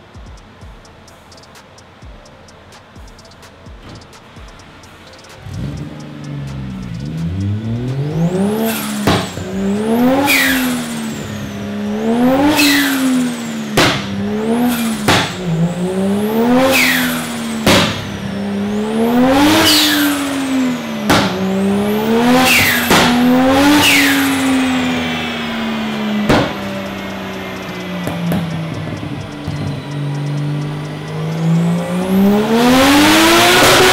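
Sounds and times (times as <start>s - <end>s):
car engine revving: 0.0s - 33.9s
high whistle: 0.0s - 33.9s
sharp exhaust cracks: 0.0s - 33.9s.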